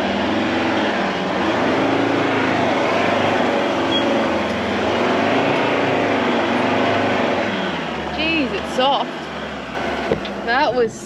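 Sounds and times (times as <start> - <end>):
engine revving hard: 0.0 - 10.8
tyres churning sand: 0.0 - 11.0.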